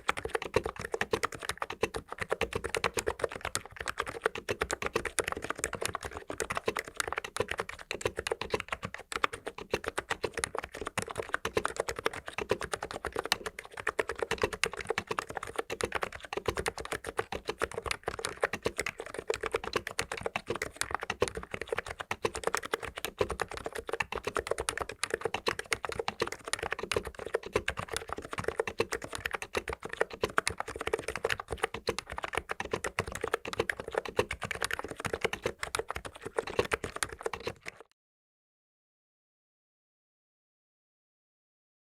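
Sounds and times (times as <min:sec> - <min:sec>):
fast typing on keyboard: 0:00.0 - 0:38.0.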